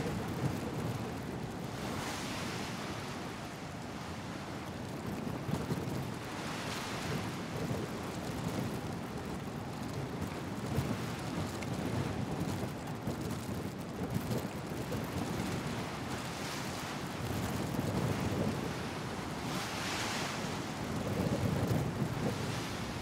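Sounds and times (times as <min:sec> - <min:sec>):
sea water rushing along ship: 0:00.0 - 0:23.0
wind on microphone: 0:00.0 - 0:23.0.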